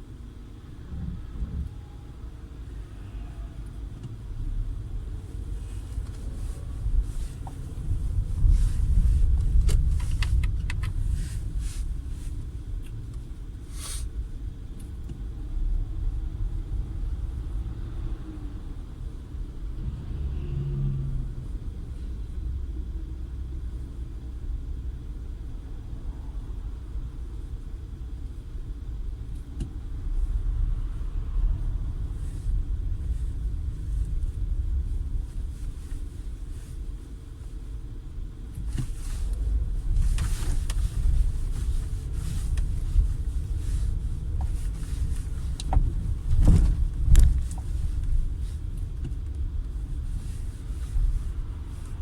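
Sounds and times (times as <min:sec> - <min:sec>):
car engine low rumble: 0:00.0 - 0:52.0.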